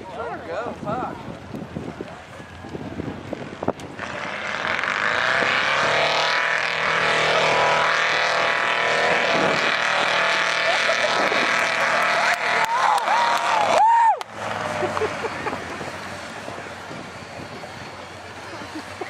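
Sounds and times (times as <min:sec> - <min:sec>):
truck engine revving hard: 0:03.3 - 0:19.0.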